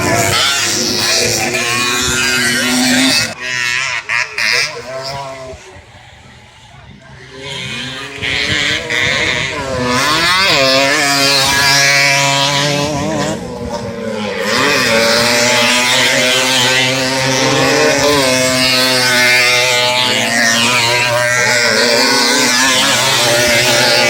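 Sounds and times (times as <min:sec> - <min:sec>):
two-stroke dirt bikes revving: 0:00.0 - 0:24.0.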